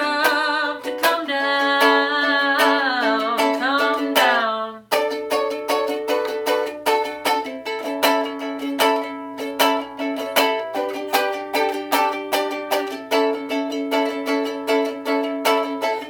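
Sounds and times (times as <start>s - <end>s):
acoustic string instrument strumming: 0.0s - 16.0s.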